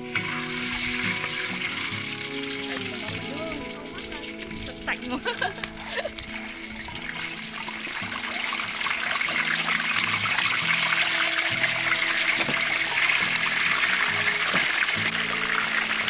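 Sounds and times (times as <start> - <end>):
fish deep-frying in hot oil: 0.0 - 16.0.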